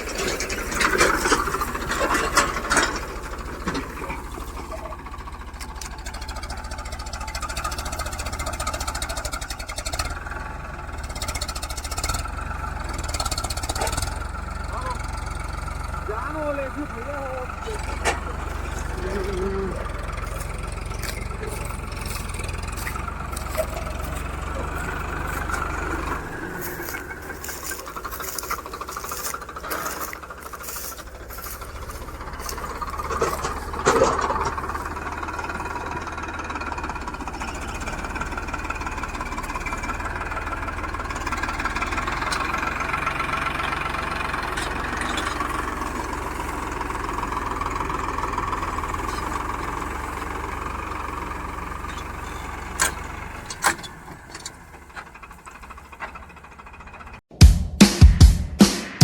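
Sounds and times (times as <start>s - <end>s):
tractor diesel engine running: 0.0s - 57.4s.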